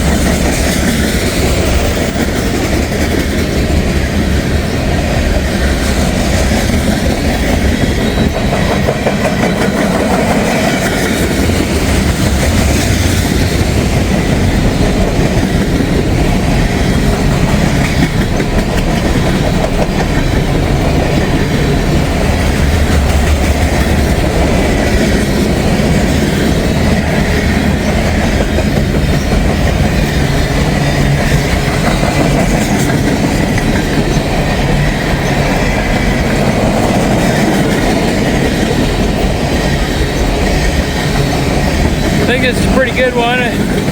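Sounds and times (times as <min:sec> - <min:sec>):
freight train cars rolling past: 0:00.0 - 0:43.9.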